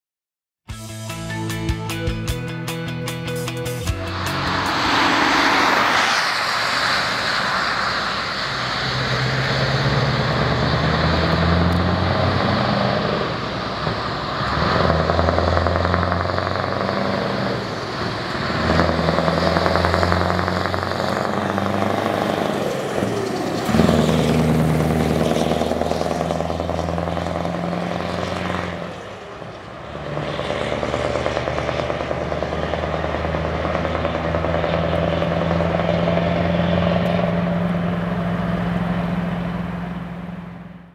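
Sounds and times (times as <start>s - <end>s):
truck diesel engine pulling away: 1.1s - 40.9s.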